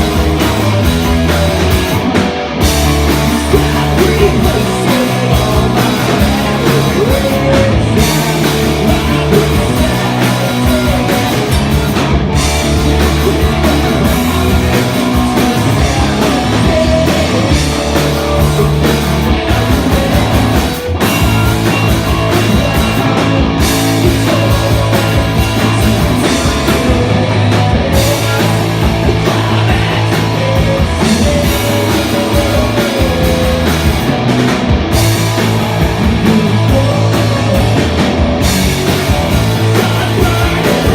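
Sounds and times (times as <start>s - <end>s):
drum kit: 0.0s - 40.9s
guitar: 0.0s - 40.9s
live rock band playing: 0.0s - 40.9s.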